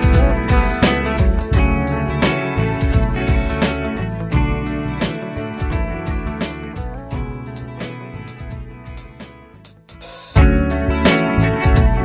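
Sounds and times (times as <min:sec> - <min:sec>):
background music: 0:00.0 - 0:12.0
percussion hits: 0:00.0 - 0:12.0.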